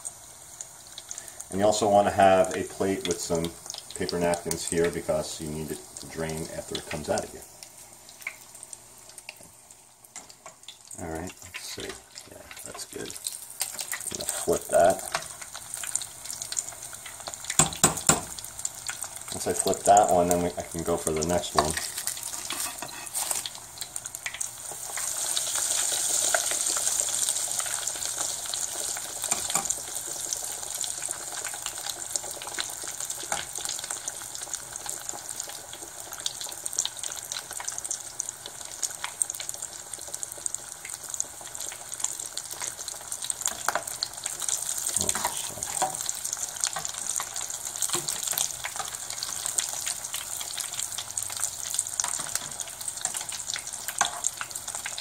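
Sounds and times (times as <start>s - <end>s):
food deep-frying in hot oil: 0.0s - 55.0s.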